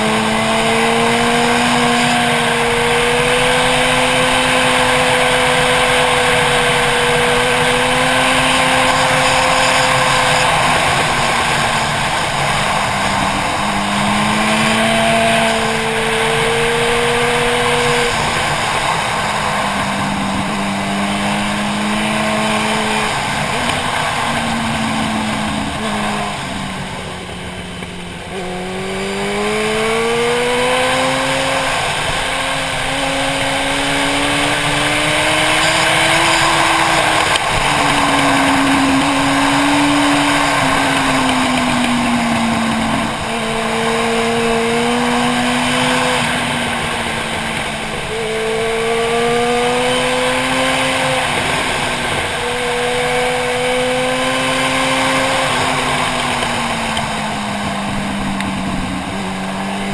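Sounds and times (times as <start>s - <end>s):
motorcycle engine: 0.0s - 59.9s
wind noise: 0.0s - 59.9s.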